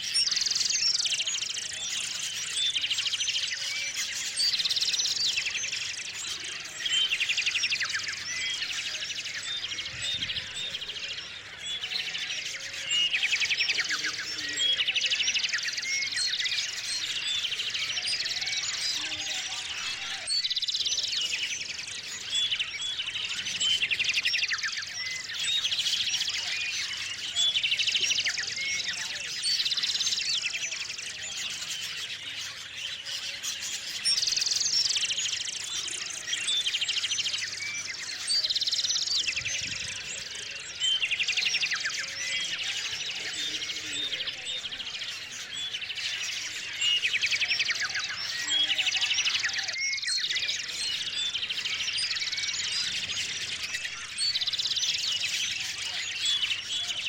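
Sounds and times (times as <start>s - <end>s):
songbirds chirping: 0.0s - 57.0s
songbirds trilling: 0.0s - 57.0s.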